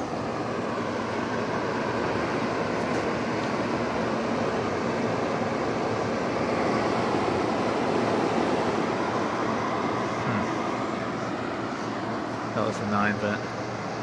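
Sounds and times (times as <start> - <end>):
air conditioner fan whoosh: 0.0 - 14.0.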